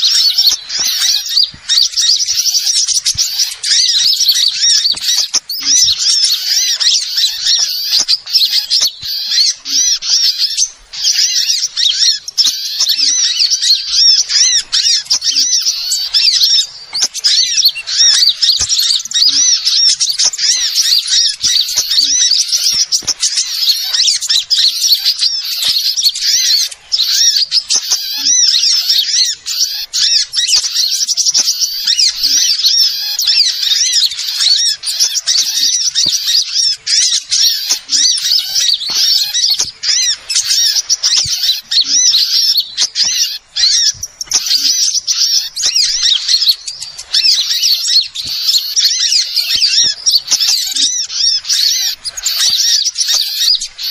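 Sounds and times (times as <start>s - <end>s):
many small birds chirping: 0.0s - 53.9s.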